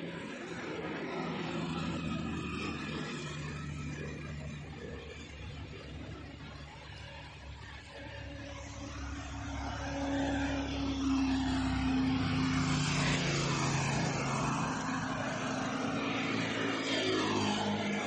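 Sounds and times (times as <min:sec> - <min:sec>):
auto-rickshaw engine running: 0:00.0 - 0:18.0.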